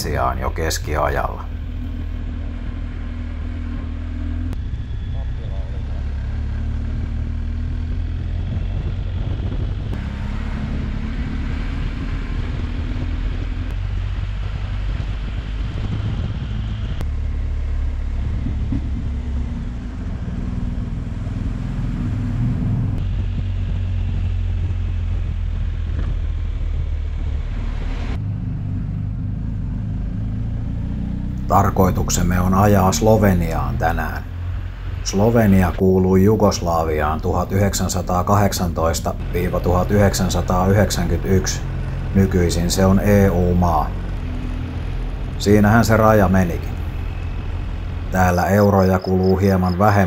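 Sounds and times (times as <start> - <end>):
motorcycle engine rumble: 0.0 - 50.0
road noise: 0.0 - 50.0
wind: 0.0 - 50.0.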